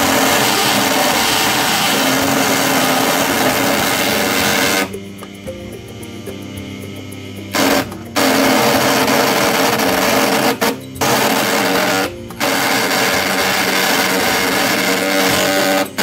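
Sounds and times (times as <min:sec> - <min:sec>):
tool rasping on spinning wood: 0:00.0 - 0:05.0, 0:07.5 - 0:16.0
lathe motor humming: 0:00.0 - 0:16.0.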